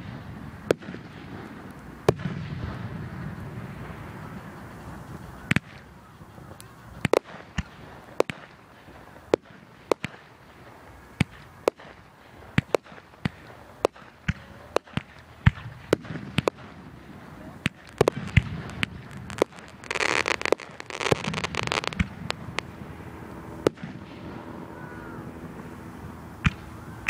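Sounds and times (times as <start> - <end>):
fireworks banging: 0.0 - 27.0.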